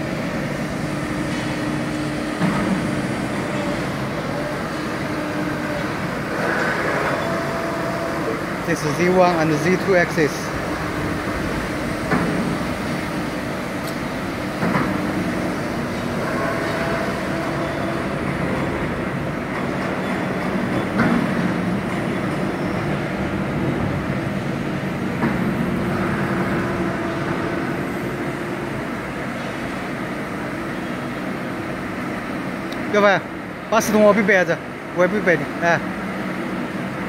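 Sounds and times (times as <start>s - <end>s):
hydraulic press humming: 0.0s - 34.1s.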